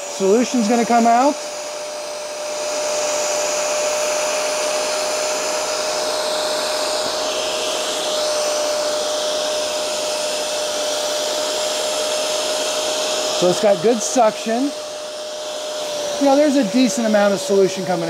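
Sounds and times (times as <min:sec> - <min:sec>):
carpet cleaner motor: 0:00.0 - 0:18.0
suction hiss: 0:00.0 - 0:18.0.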